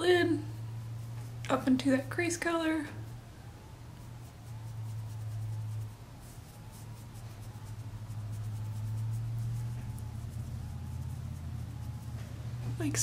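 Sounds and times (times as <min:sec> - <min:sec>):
low hum: 0:00.0 - 0:13.0
brush scratching on eyelid: 0:00.1 - 0:03.2, 0:03.9 - 0:13.0.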